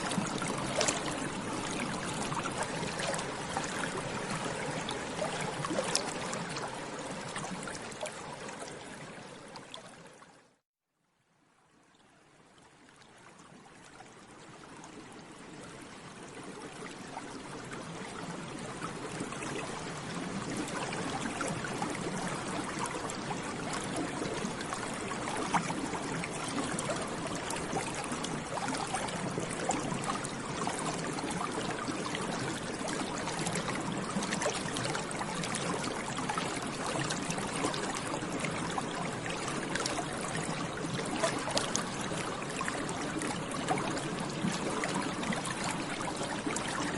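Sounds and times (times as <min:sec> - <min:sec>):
bubbling water: 0:00.0 - 0:10.2, 0:16.6 - 0:46.9.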